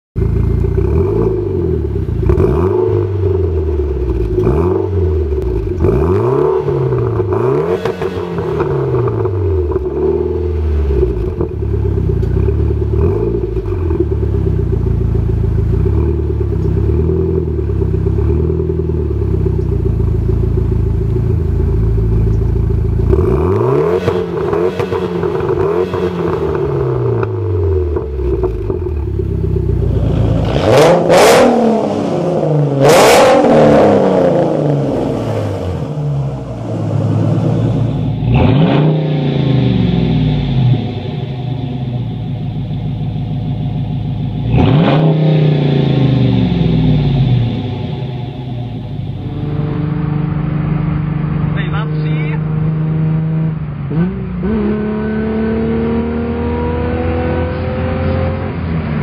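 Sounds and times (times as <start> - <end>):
car engine revving: 0.2 - 59.0.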